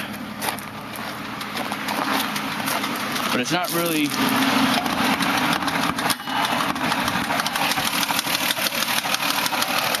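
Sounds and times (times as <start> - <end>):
car engine idling: 0.0 - 10.0
rapid engine ticking: 0.0 - 10.0.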